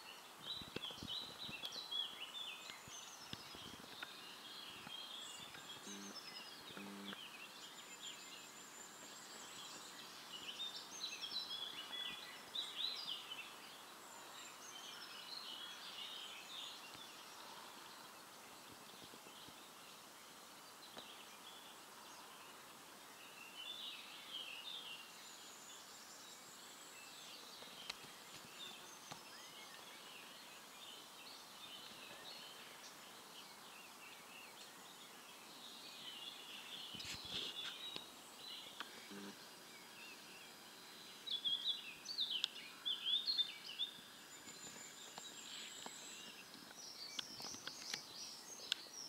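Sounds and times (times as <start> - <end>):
faint steady hiss: 0.0 - 49.0
songbirds singing: 0.0 - 49.0.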